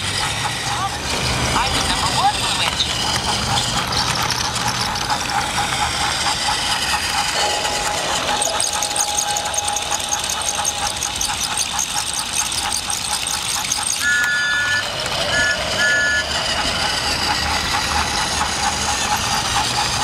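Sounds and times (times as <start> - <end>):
rapid clicking: 0.0 - 20.0
toy train motor whine: 0.0 - 20.0.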